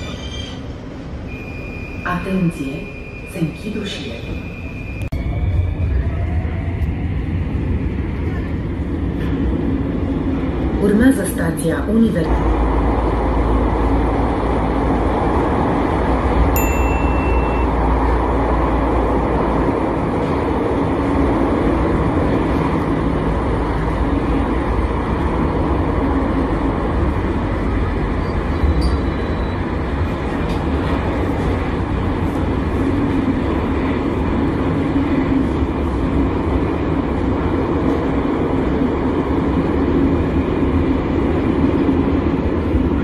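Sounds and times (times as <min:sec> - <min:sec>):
metro train running: 0:00.0 - 0:43.0.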